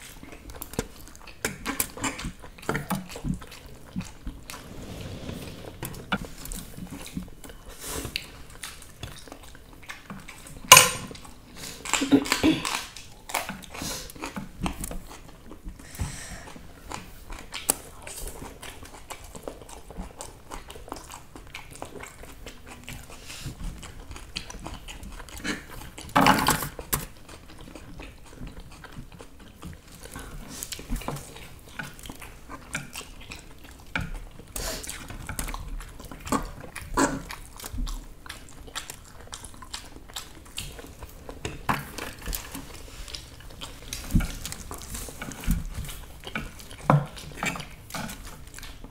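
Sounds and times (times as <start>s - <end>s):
chewing and biting noodles: 0.0s - 4.8s, 6.0s - 48.9s.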